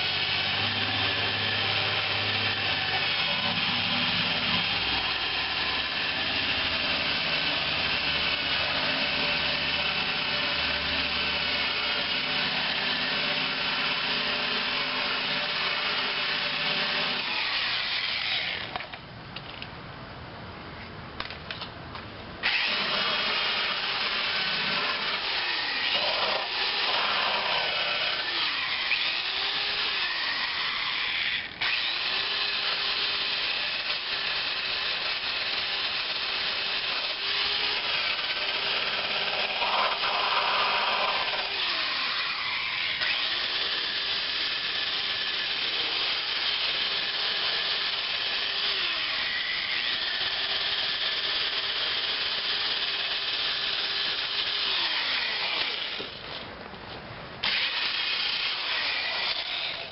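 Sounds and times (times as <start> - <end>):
electric drill grinding metal: 0.0 - 19.0, 22.4 - 56.4, 57.4 - 59.9.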